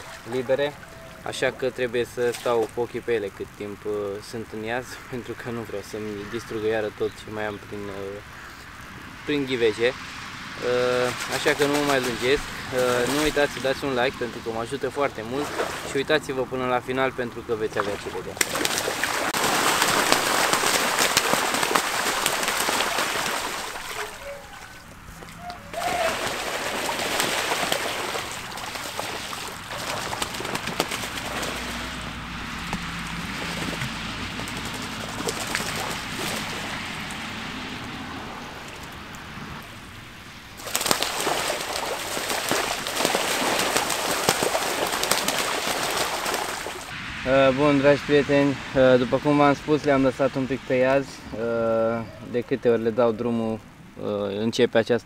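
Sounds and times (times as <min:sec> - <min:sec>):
ducks splashing in water: 0:00.0 - 0:47.0.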